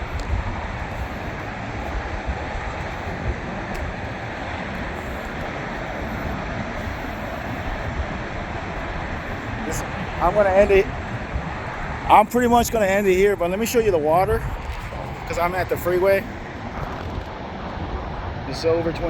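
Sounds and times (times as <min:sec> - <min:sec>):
freeway traffic roar: 0:00.0 - 0:19.0
wind buffeting microphone: 0:00.0 - 0:19.0.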